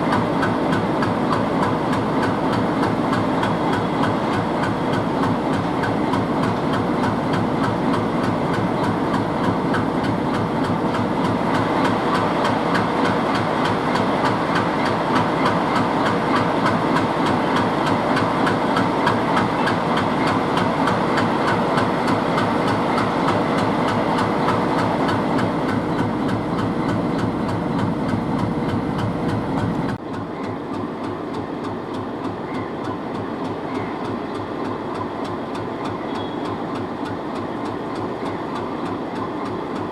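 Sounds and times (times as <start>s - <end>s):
train wheels clattering: 0.0s - 39.9s.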